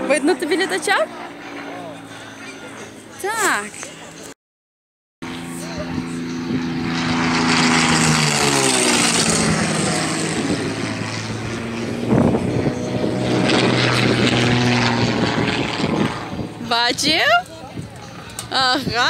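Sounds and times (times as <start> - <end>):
propeller airplane flying past: 0.0 - 4.4, 5.2 - 19.0.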